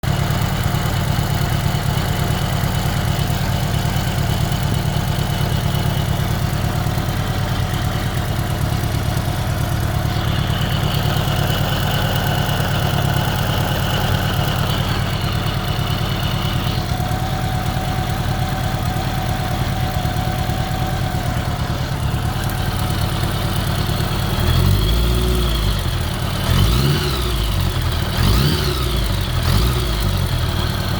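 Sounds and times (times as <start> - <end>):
engine revving: 0.0 - 18.0, 22.3 - 30.9
engine ticking noise: 0.0 - 30.9
motorcycle engine idling: 0.0 - 30.9.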